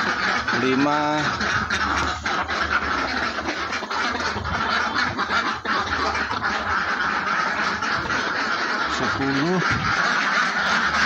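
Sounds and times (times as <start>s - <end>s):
ducks quacking and chattering: 0.0s - 11.0s.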